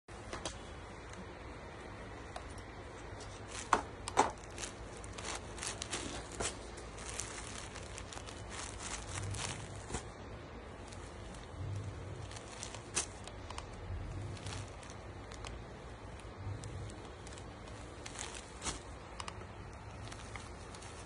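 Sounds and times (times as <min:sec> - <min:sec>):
silk fabric rustling: 0:03.2 - 0:21.0.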